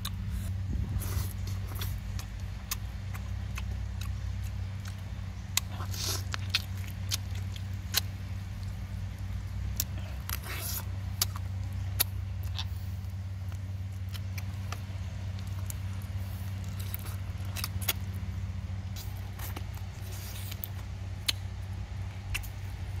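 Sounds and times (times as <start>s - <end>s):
steady low hum: 0.0s - 23.0s
wet chewing and lip-smacking: 0.0s - 23.0s.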